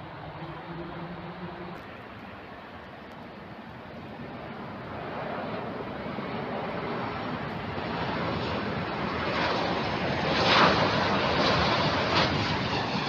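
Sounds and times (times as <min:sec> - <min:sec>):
jet airliner engine roar: 0:00.0 - 0:13.0.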